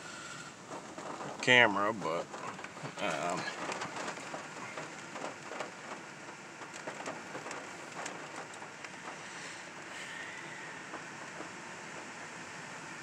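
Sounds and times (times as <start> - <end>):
rain on a truck roof: 0.0 - 13.0.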